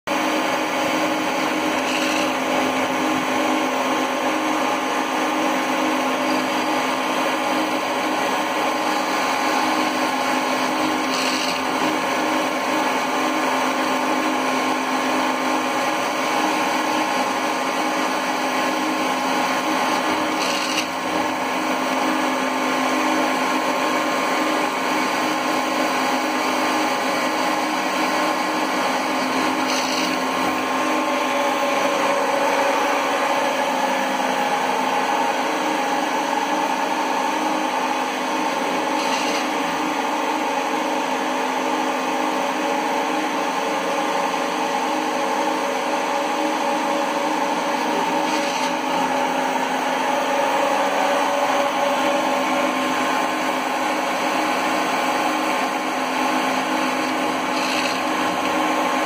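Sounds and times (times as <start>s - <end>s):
tool cutting metal: 0.1s - 40.8s, 46.3s - 59.0s
lathe spindle hum: 0.1s - 59.0s.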